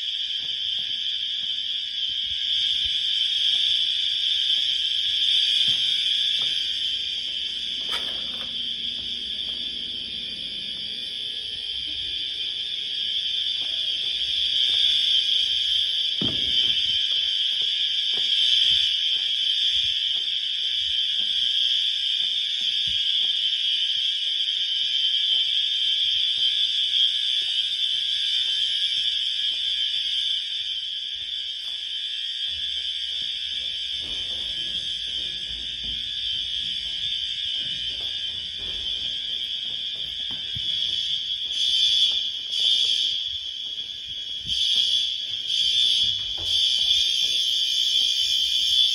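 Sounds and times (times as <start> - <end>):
fire alarm horns blaring: 0.0 - 48.9.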